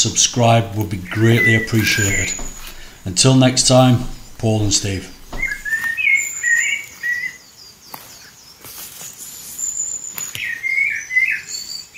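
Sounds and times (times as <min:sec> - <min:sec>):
small birds singing: 0:00.0 - 0:11.9.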